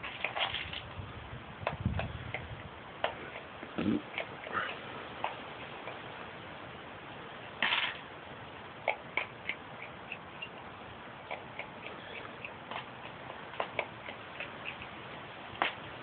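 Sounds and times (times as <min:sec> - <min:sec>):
raccoon chewing: 0:00.0 - 0:16.0.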